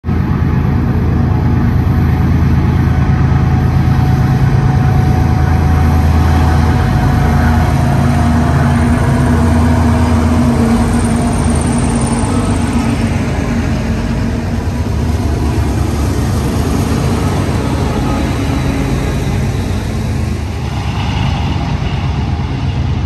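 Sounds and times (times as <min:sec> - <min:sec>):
diesel locomotive engines running: 0:00.0 - 0:23.0
rumble of moving train: 0:00.0 - 0:23.0.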